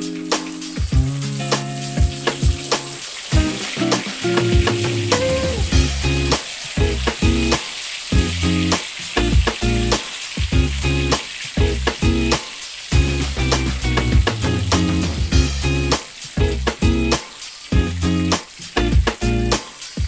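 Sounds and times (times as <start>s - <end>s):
background music: 0.0s - 19.7s
food frying in oil: 0.0s - 20.0s.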